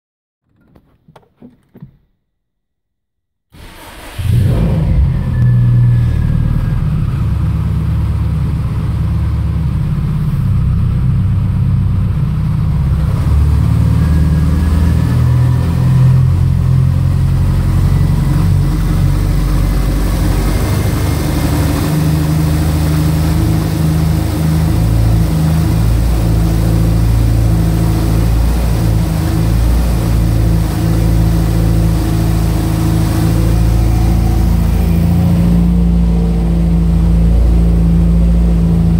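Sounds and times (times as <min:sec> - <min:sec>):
car engine idling: 0:03.6 - 0:38.9.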